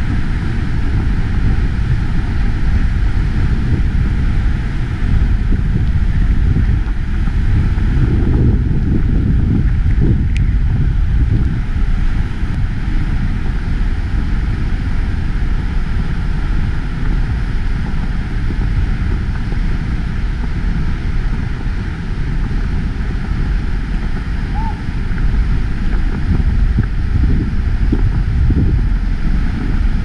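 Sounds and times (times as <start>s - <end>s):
waterfall rushing: 0.0s - 30.0s
wind buffeting microphone: 0.0s - 30.0s.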